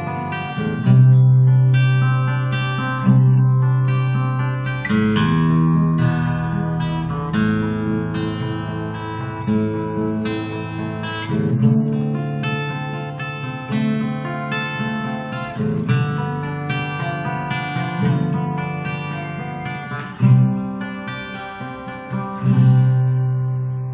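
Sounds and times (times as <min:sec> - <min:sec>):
acoustic guitar playing: 0:00.0 - 0:23.9.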